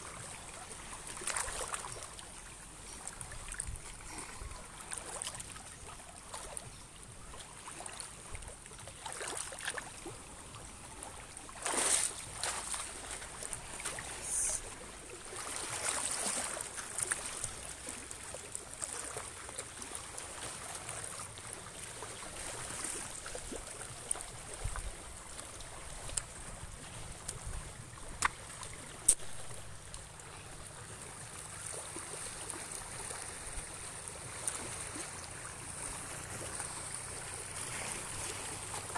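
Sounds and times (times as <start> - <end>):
sea waves lapping on rocks: 0.0 - 38.9.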